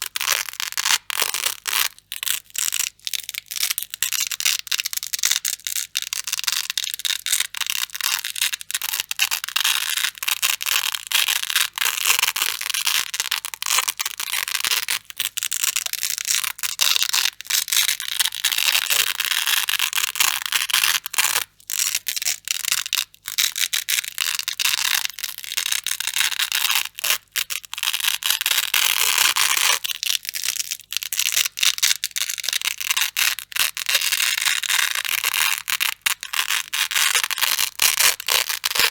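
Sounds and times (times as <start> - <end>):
velcro peeling apart: 0.0 - 38.9.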